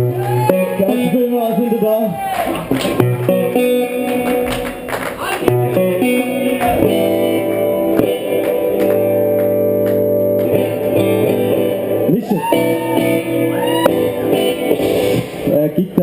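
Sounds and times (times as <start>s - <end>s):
guitar chords plucked: 0.0s - 16.0s.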